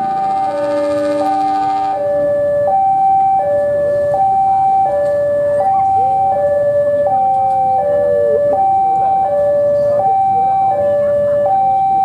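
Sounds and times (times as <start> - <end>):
two-tone railway warning alarm: 0.0 - 12.0.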